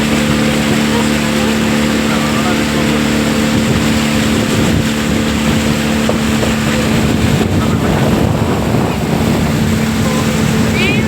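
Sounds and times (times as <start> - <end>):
motorboat engine running: 0.0 - 11.0
wind buffeting microphone: 0.0 - 11.0.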